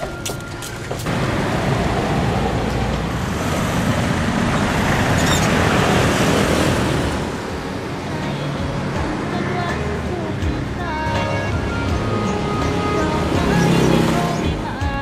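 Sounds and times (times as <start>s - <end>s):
busy road traffic: 0.0s - 15.0s.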